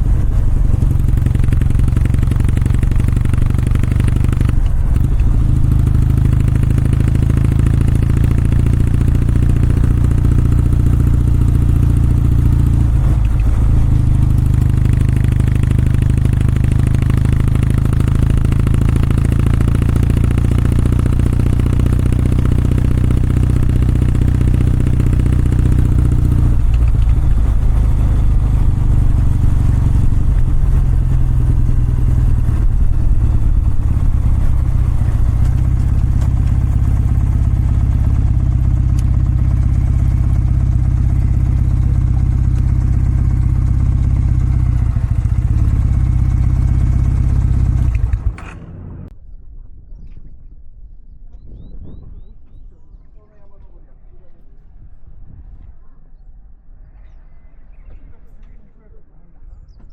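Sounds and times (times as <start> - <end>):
motorcycle engine exhaust: 0.0 - 49.1.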